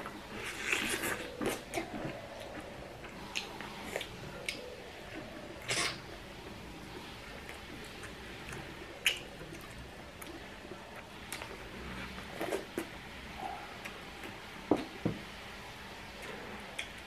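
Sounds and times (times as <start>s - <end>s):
wet chewing and mouth sounds: 0.0s - 6.2s, 6.8s - 15.0s, 16.1s - 17.0s.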